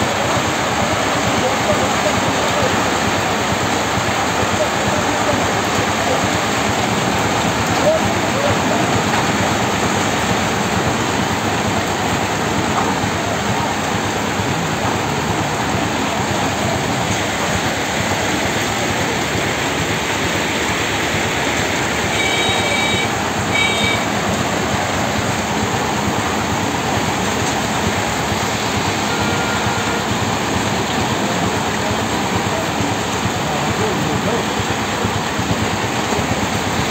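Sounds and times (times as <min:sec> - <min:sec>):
hail and rain on wet street: 0:00.0 - 0:36.9.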